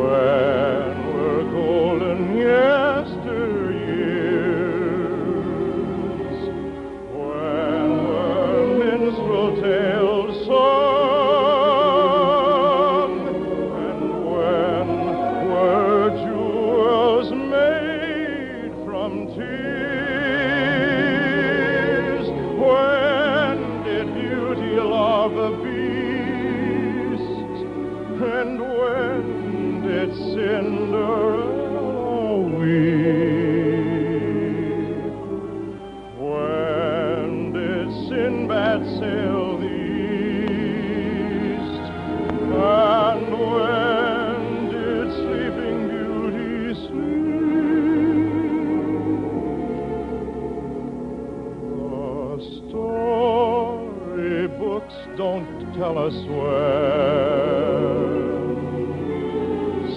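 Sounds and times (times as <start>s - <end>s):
orchestra playing: 0.0s - 59.9s
person singing with vibrato: 0.0s - 59.9s.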